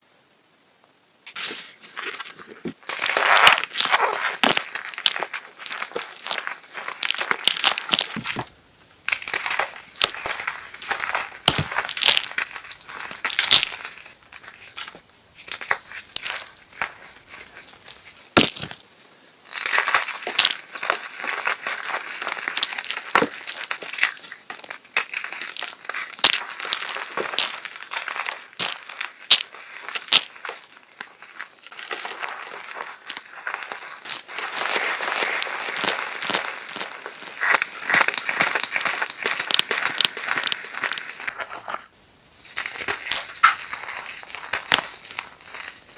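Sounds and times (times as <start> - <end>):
chalk being crunched: 1.3 - 45.9.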